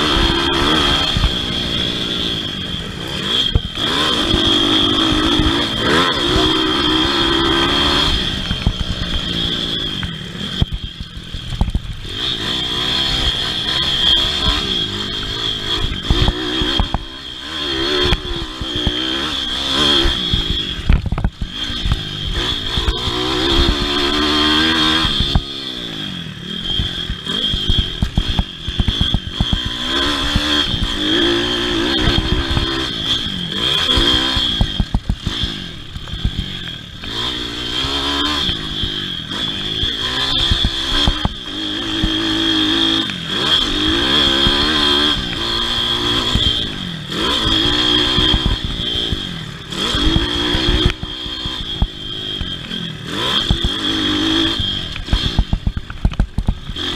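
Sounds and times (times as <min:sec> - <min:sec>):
small motorcycle engines revving: 0:00.0 - 0:56.9.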